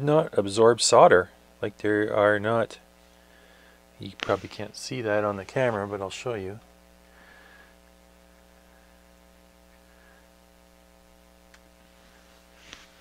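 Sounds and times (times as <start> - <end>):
faint mains hum: 0.0 - 13.0.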